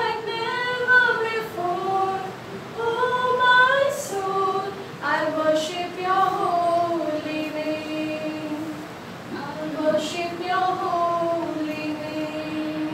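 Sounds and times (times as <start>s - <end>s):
women singing slow melody: 0.0s - 12.9s.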